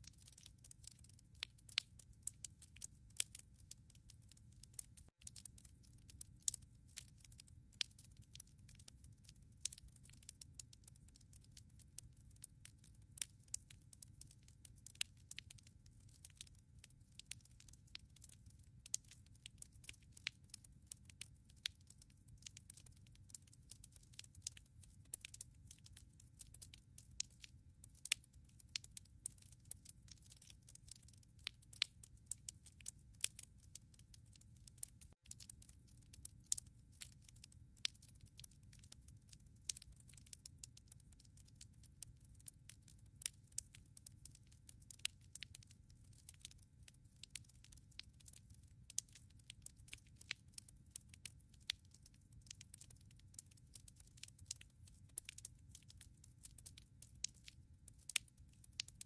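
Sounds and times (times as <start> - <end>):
wood fire crackling: 0.0 - 55.9, 58.0 - 59.0.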